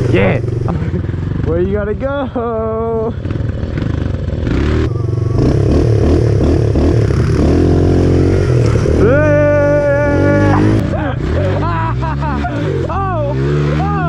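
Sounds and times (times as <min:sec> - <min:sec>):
pit bike engine revving: 0:00.0 - 0:02.0, 0:02.9 - 0:14.0.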